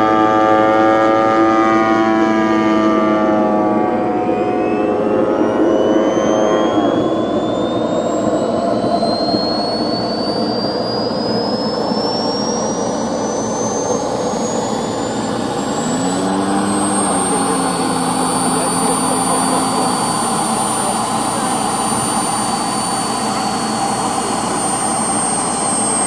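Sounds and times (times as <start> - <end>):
model airplane engine droning: 0.0 - 26.0
thin high whine: 0.0 - 26.0
brief low hum: 2.1 - 26.0.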